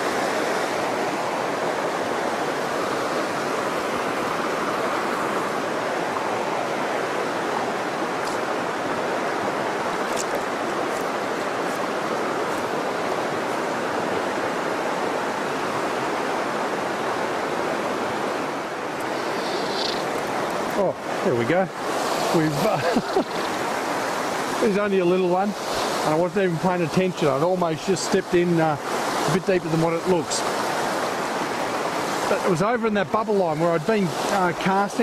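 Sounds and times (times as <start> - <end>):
river rushing over rocks: 0.0 - 35.0.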